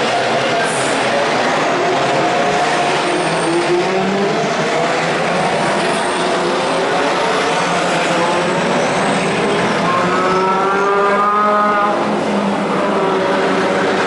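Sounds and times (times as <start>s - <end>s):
racing car engines passing: 0.0s - 14.0s.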